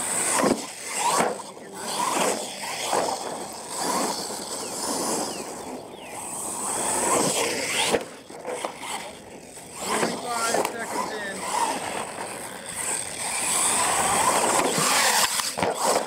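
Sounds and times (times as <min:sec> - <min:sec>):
toy truck drivetrain whining: 0:00.0 - 0:16.0.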